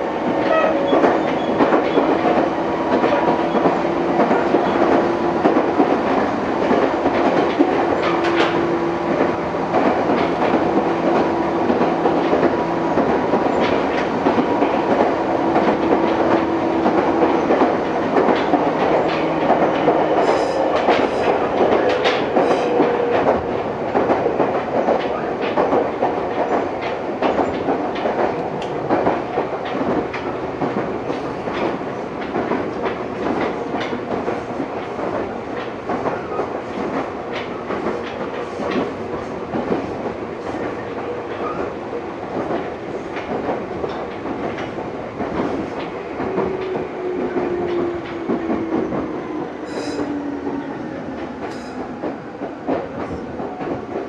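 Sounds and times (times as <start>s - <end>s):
train motor hum: 0.0s - 34.3s, 37.2s - 54.0s
wheels clicking over rail joints: 0.2s - 54.0s.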